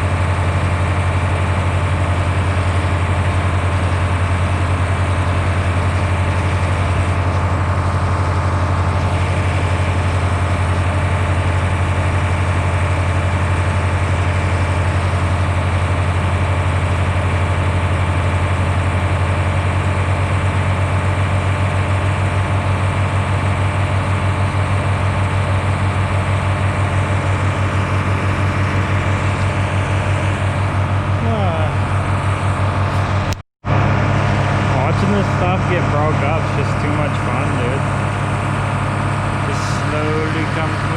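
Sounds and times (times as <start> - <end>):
heavy engine droning: 0.0 - 40.9
pump churning manure: 0.0 - 40.9.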